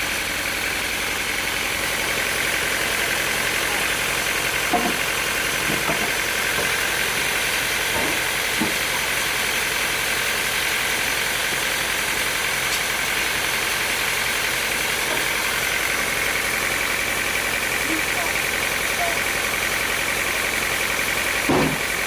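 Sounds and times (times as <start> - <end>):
sawmill machinery drone: 0.0 - 22.0.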